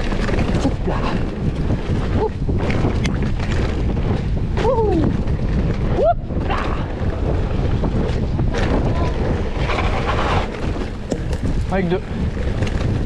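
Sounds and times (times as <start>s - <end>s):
mountain bike rumble and rattle: 0.0s - 13.0s
wind buffeting microphone: 0.0s - 13.0s.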